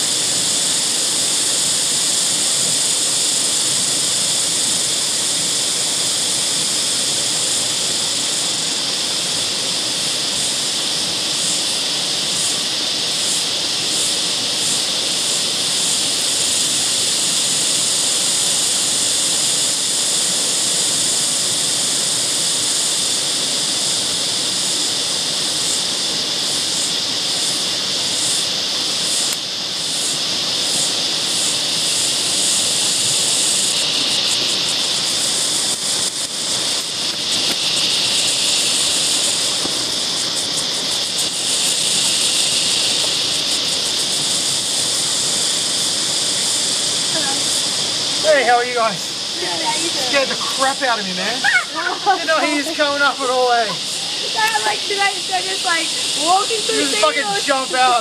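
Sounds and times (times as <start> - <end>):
high-pitched insect hiss: 0.0 - 58.0.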